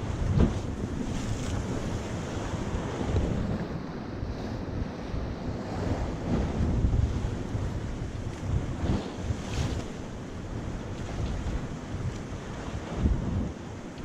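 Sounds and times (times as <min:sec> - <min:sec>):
waves washing against rocks: 0:00.0 - 0:14.0
wind buffeting microphone: 0:00.0 - 0:14.0.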